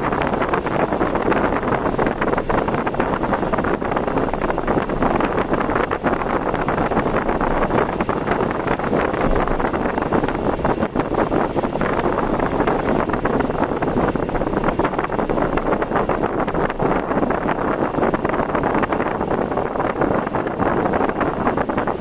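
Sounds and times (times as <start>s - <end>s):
wind and rain buffeting a car: 0.0s - 22.0s.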